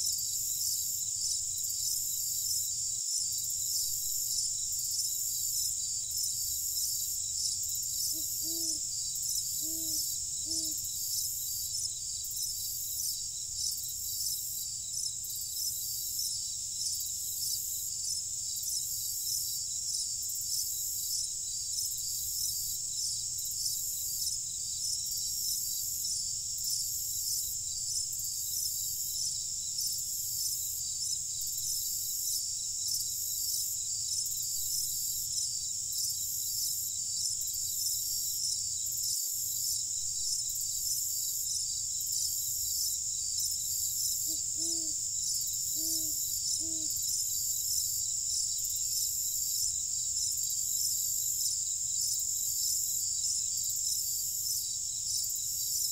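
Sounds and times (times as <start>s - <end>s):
crickets chirring: 0.0s - 55.9s.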